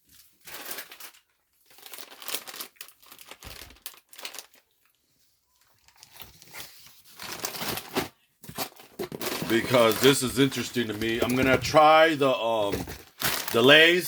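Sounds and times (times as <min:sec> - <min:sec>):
plastic packaging crinkling: 0:00.2 - 0:14.0.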